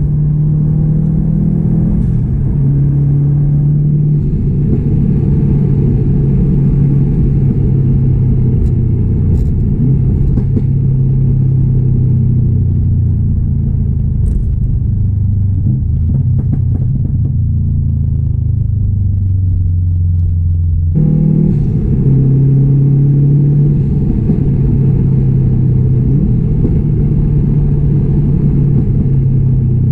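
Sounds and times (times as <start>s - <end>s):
car engine running: 0.0s - 29.9s.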